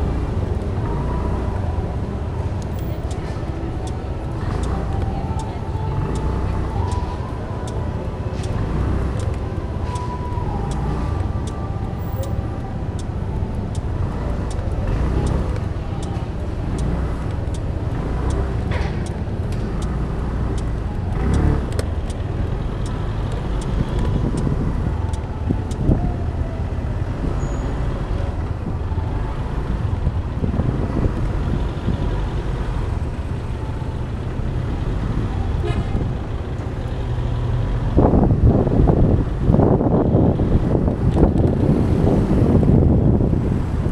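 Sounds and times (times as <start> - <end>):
passing cars rumbling: 0.0 - 43.9.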